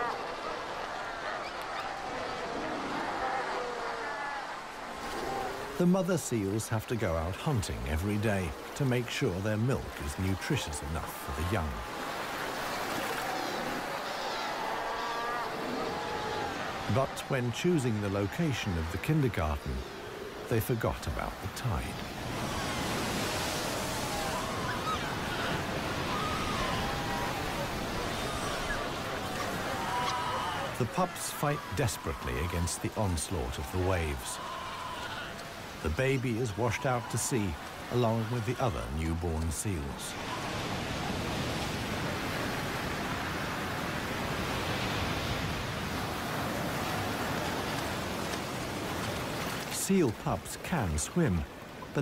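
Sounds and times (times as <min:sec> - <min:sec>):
surf breaking and washing: 0:00.0 - 0:52.0.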